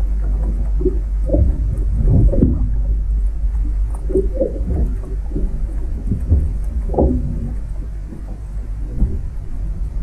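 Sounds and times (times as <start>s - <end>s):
low underwater rumble: 0.0s - 10.0s
underwater gurgles: 0.0s - 10.0s.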